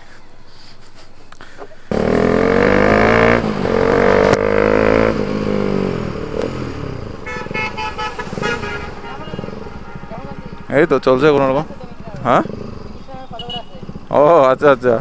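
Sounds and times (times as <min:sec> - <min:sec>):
motorcycle engine revving: 0:01.7 - 0:15.0.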